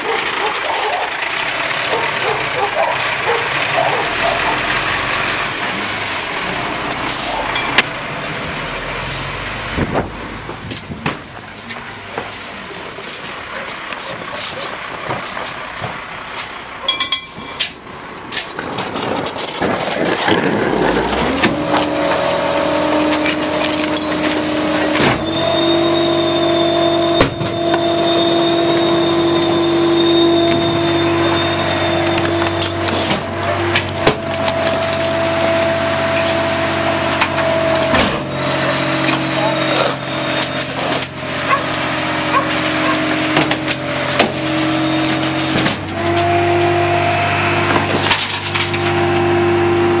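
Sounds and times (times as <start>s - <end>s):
garbage truck engine revving: 0.0s - 16.8s, 17.7s - 50.0s
hydraulic packer whine: 1.2s - 10.8s, 18.8s - 50.0s.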